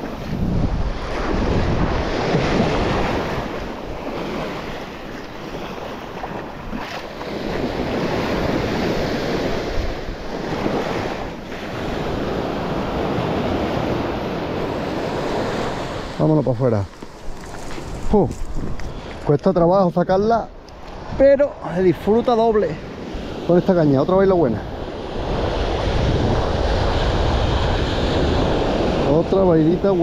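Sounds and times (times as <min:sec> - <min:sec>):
surf washing onto beach: 0:00.0 - 0:19.3, 0:20.9 - 0:30.0
wind buffeting microphone: 0:00.0 - 0:30.0.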